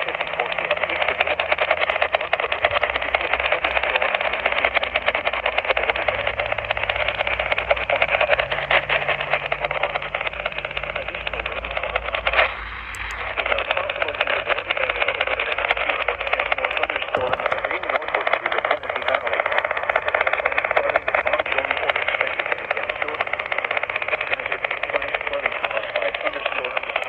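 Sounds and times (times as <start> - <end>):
radio static hiss and crackle: 0.0 - 27.0.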